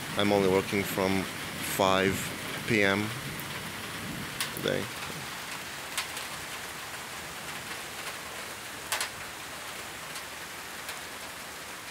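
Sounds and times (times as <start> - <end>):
rain falling on trees: 0.0 - 11.9.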